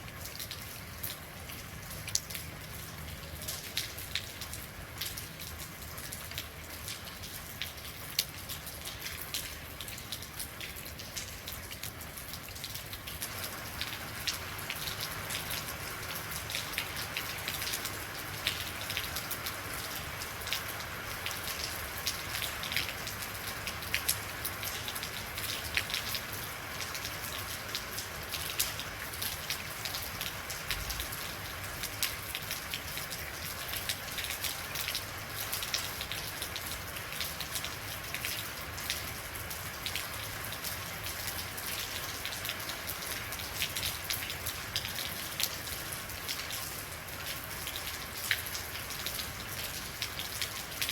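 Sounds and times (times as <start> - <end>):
rain pattering on surfaces: 0.0 - 50.9.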